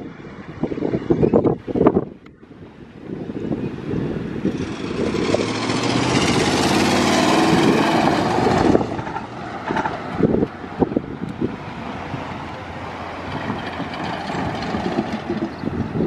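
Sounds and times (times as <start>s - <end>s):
train rolling on rails: 1.4s - 16.0s.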